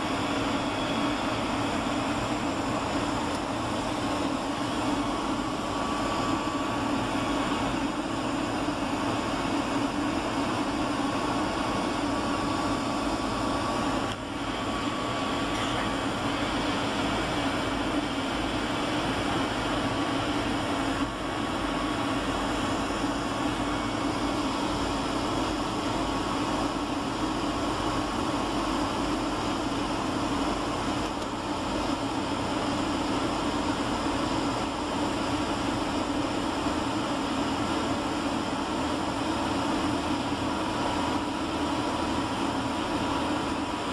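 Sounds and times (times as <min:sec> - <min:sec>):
airliner cabin engine rush: 0:00.0 - 0:43.9
faint high whine: 0:00.0 - 0:43.9.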